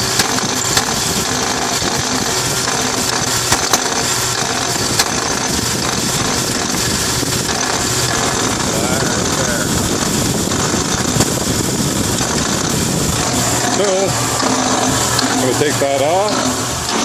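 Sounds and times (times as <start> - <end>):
engine mechanical noise: 0.0 - 17.0
sharp engine knocks: 0.0 - 17.0.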